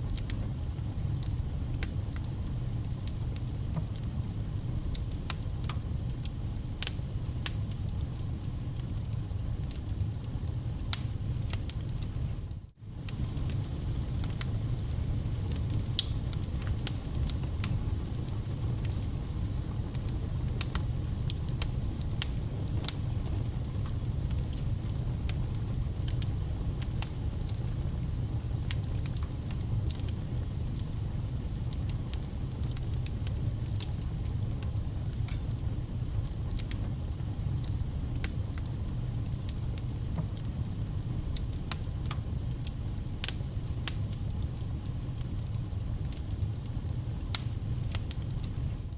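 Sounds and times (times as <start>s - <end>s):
burning logs crackling and popping: 0.0s - 48.9s
low rumble of flames: 0.0s - 48.9s.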